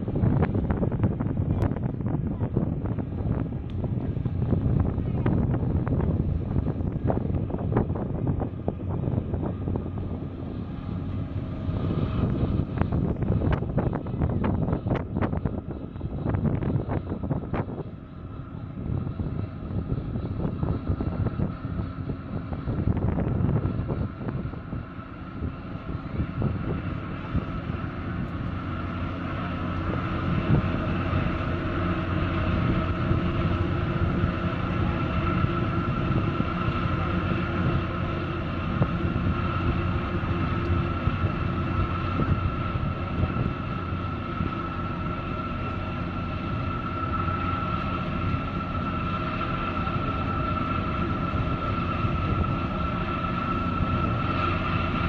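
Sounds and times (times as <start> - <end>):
ship diesel engine drone: 0.0 - 55.0
steady high whine: 0.0 - 55.0.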